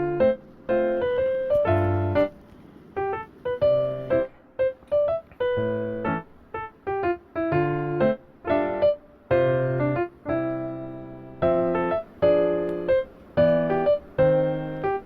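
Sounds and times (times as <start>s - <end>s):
piano-like keyboard chords: 0.0s - 15.0s.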